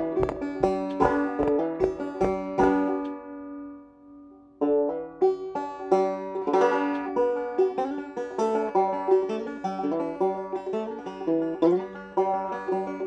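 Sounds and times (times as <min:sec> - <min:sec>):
banjo playing a reel: 0:00.0 - 0:13.0.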